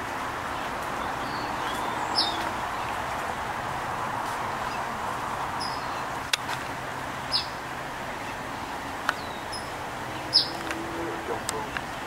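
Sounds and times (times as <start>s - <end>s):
outdoor background hiss: 0.0s - 12.0s
songbird chirping: 0.4s - 3.4s, 4.4s - 12.0s.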